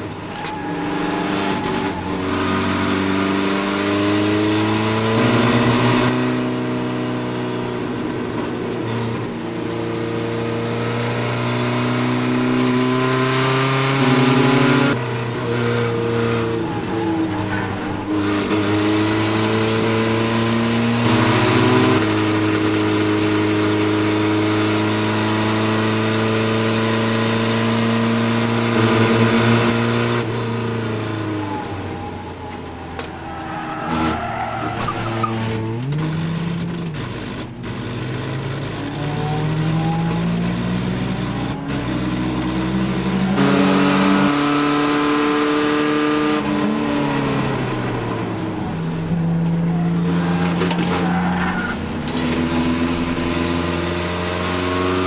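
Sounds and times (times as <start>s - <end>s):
race truck engine revving: 0.0s - 55.0s.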